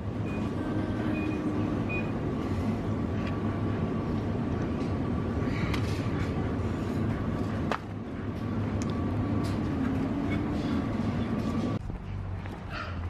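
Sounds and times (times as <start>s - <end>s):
outdoor background noise: 0.0s - 13.0s
supermarket background rumble: 0.0s - 13.0s.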